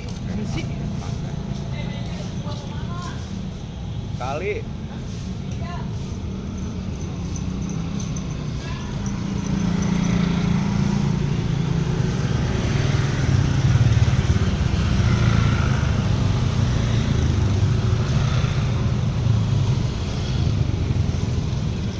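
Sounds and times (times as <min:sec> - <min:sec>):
vehicle engine humming: 0:00.0 - 0:21.9.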